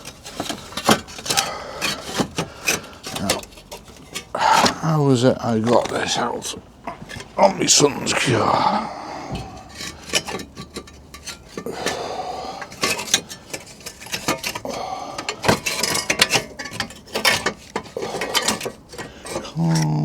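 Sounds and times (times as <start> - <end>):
metal tools clinking and knocking: 0.0 - 20.0.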